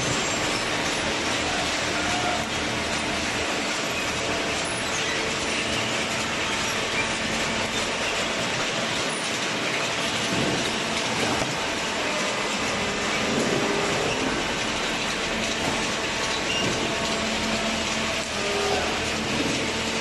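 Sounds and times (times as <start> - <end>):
baler machine running: 0.0 - 20.0.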